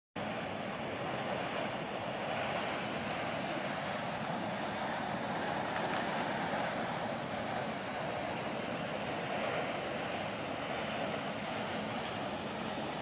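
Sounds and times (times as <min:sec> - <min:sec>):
geyser venting steam: 0:00.2 - 0:13.0.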